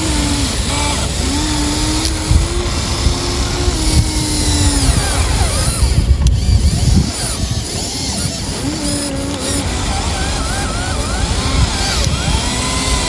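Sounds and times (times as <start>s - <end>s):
electric motors whirring: 0.0s - 13.0s
steady low rumble: 0.0s - 13.0s.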